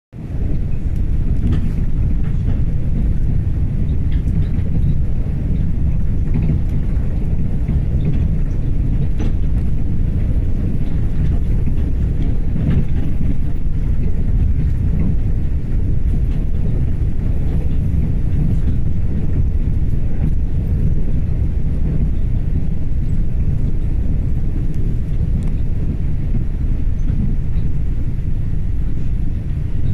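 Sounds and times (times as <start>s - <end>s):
train coach rumbling on track: 0.1s - 29.9s
light ticks and rattles: 0.3s - 29.9s.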